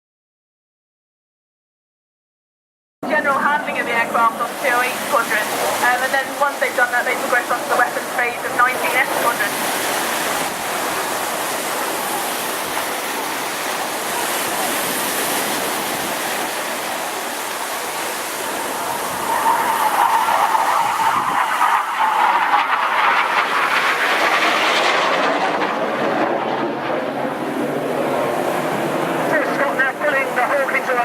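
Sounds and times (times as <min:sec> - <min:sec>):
jet engine roar: 0:03.0 - 0:31.0.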